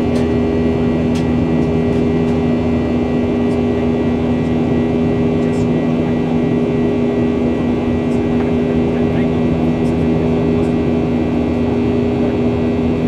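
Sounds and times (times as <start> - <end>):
jet engines droning: 0.0 - 13.0
low hums: 0.0 - 13.0.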